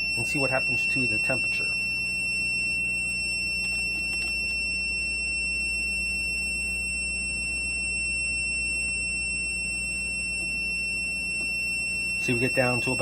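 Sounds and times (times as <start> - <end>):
high-pitched electronic buzzer tone: 0.0 - 13.0.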